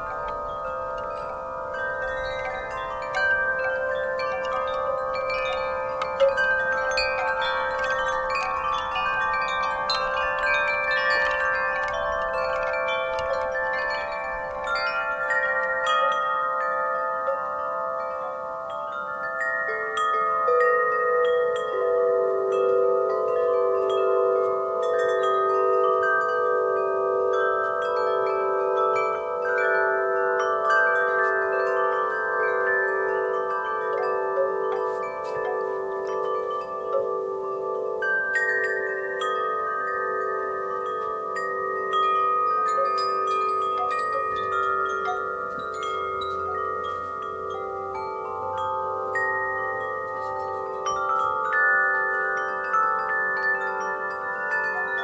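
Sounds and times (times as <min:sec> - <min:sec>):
lower chime ringing: 0:00.0 - 0:55.0
wind chimes ringing: 0:00.0 - 0:55.0.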